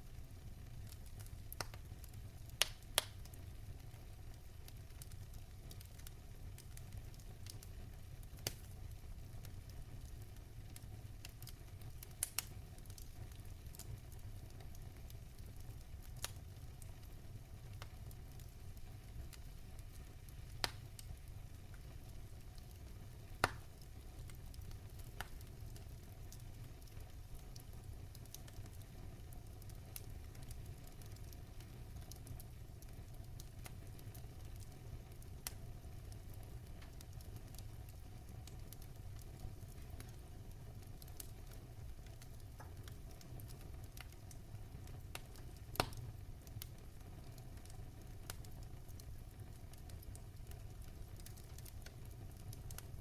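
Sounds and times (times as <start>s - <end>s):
fire crackles and pops: 0.0s - 53.0s
wood fire rumble and hiss: 0.0s - 53.0s.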